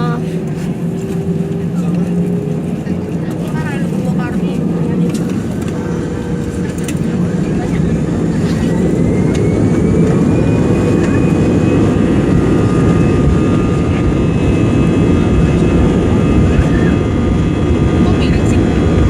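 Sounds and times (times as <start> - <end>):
jet engine rumble: 0.0 - 19.0
jet engine whine: 0.0 - 19.0.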